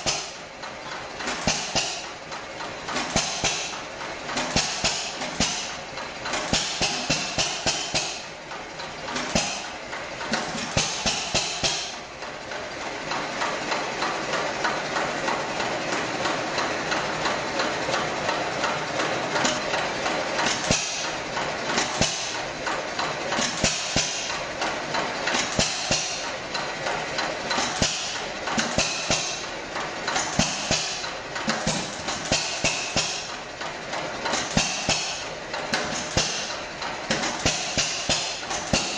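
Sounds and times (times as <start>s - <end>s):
stationary engine clattering and firing: 0.0s - 38.9s.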